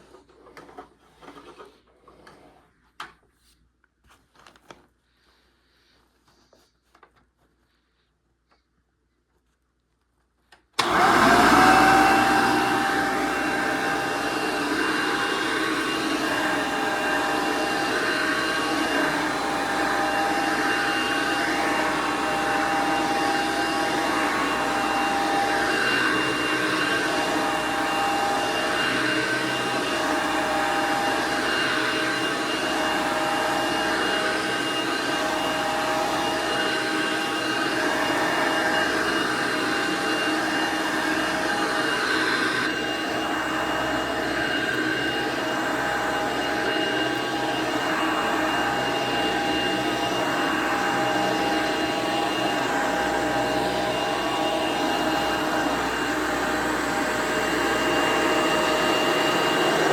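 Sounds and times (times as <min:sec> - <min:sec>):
vacuum cleaner motor whining: 0:10.8 - 0:59.9.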